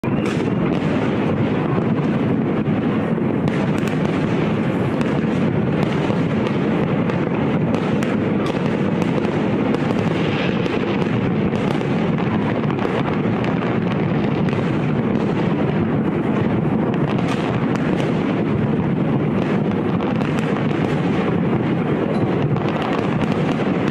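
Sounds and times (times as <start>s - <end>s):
fireworks bangs and crackles: 0.0s - 23.9s
sharp firework cracks: 0.0s - 23.9s.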